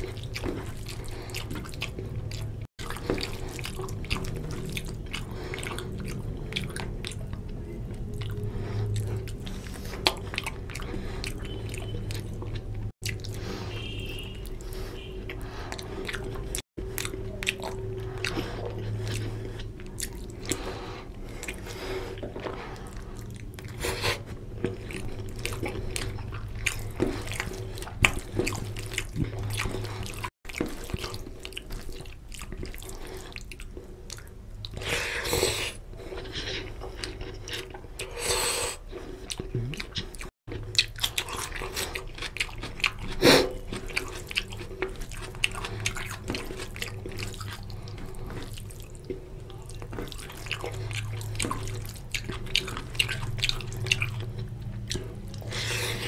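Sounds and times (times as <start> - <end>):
chewing and mouth smacks: 0.0 - 56.0.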